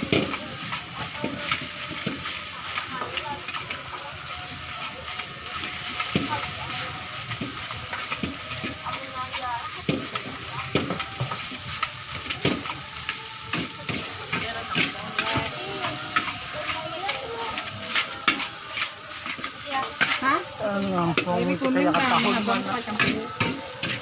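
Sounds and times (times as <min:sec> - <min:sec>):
metal spatula scraping a pan: 0:00.0 - 0:24.0
rice sizzling in a wok: 0:00.0 - 0:24.0.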